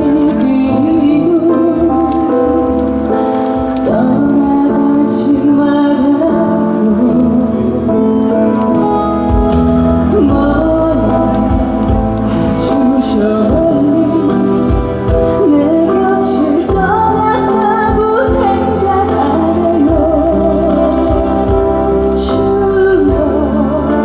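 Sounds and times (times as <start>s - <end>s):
amplified accompaniment: 0.0s - 24.0s
woman singing with vibrato: 0.0s - 24.0s.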